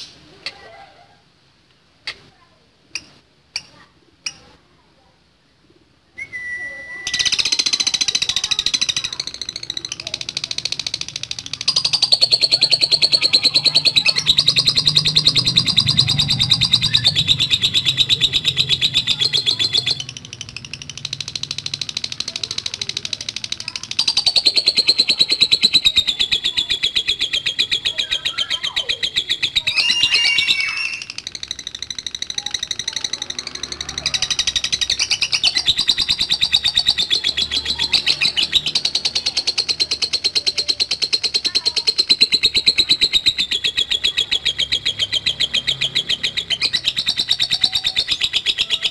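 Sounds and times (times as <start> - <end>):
lovebird chattering trill: 6.2 - 48.9.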